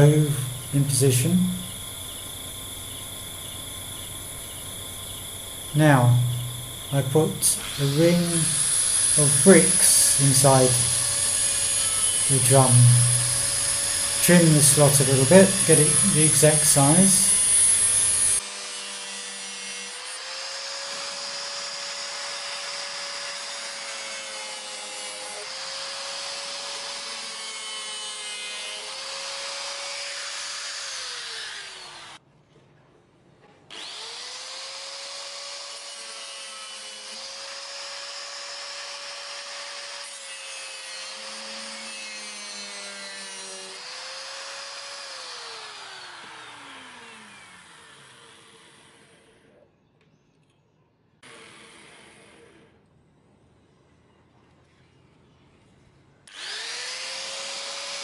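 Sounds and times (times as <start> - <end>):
angle grinder cutting steel: 0.0 - 32.2, 33.7 - 49.2, 56.3 - 58.0.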